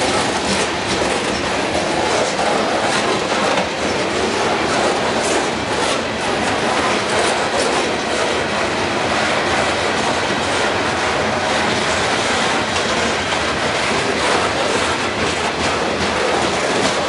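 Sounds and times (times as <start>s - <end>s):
steel wheels running on rails: 0.0s - 17.0s.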